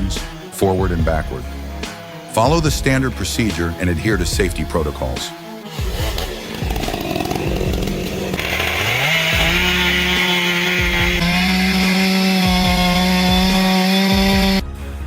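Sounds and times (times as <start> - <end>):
chainsaw cutting wood: 0.0 - 14.7.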